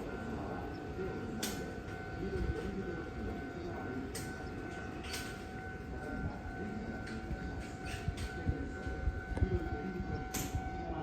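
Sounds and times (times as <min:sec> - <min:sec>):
level crossing warning alarm: 0:00.0 - 0:11.0
low train rumble: 0:00.0 - 0:11.0.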